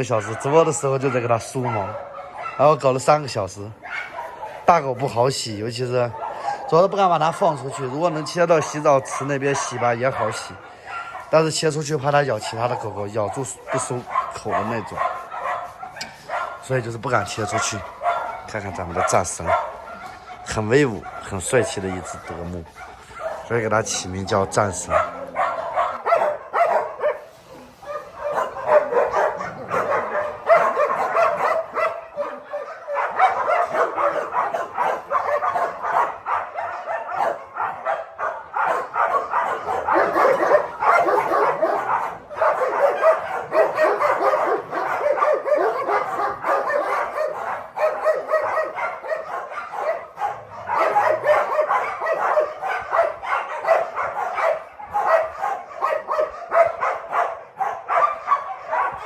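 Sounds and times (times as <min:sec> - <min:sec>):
many dogs barking: 0:00.0 - 0:59.0.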